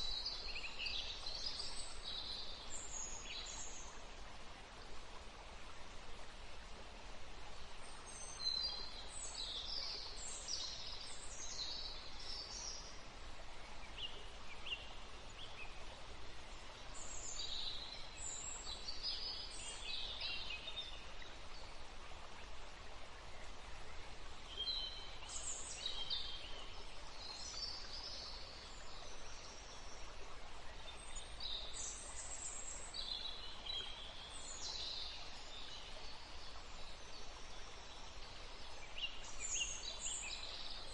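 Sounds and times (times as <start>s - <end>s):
running river water: 0.0s - 40.9s
songbirds chirping: 0.0s - 40.9s.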